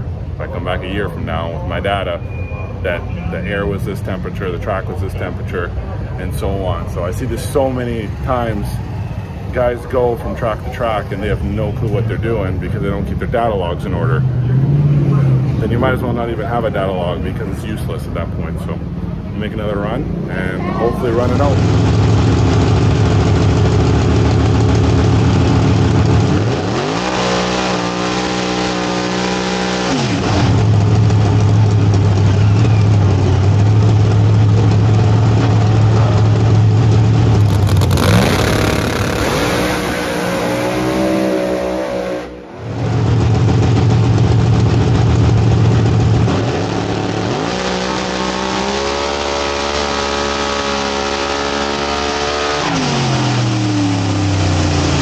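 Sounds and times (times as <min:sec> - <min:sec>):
race car engine idling and revving: 0:00.0 - 0:55.0.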